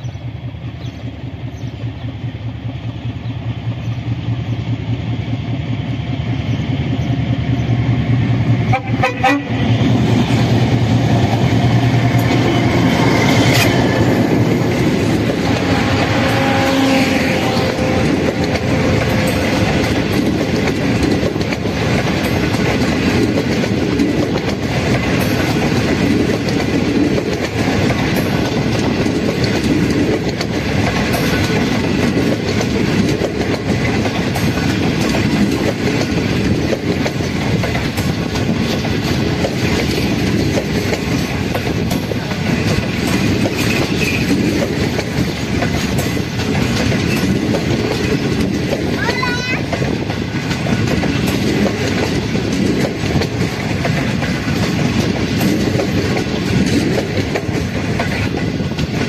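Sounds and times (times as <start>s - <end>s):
diesel locomotive engine: 0.0s - 59.0s
train wheels clacking over rail joints: 0.0s - 59.0s.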